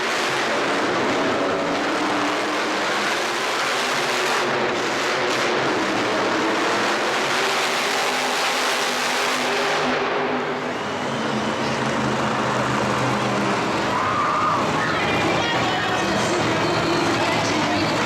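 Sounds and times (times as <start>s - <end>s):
truck engine roaring: 0.0s - 18.0s.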